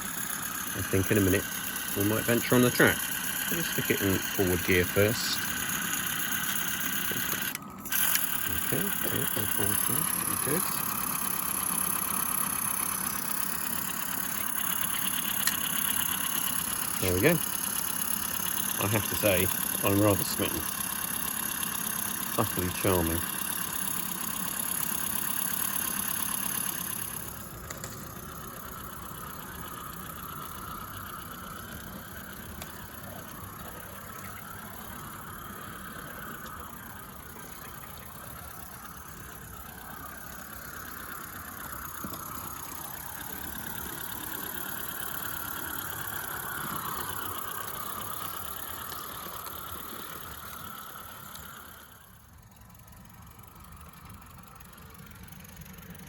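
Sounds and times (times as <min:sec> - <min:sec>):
model locomotive running: 0:00.0 - 0:56.0.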